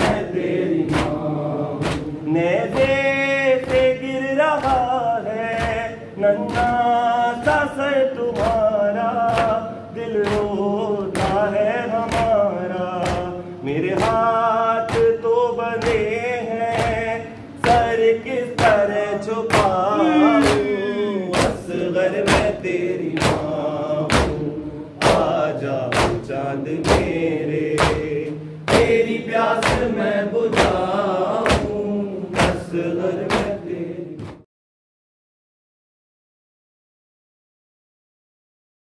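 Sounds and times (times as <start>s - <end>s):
men chanting a lament: 0.0s - 34.2s.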